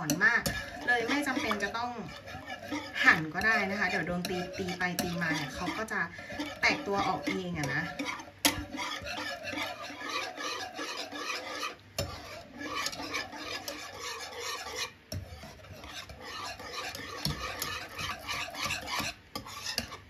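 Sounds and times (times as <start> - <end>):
utensil scraping thick sauce: 0.0 - 20.0.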